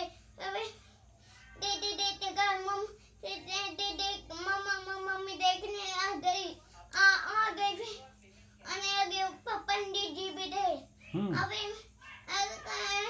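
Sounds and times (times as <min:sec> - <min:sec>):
boy singing: 0:01.6 - 0:08.0, 0:08.6 - 0:13.0.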